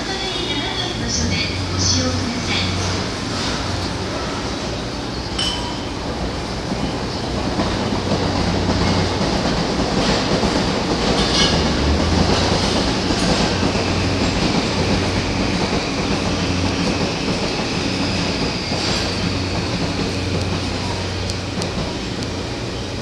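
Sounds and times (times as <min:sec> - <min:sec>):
electric train hum: 0:00.0 - 0:23.0
train running noise: 0:00.0 - 0:23.0.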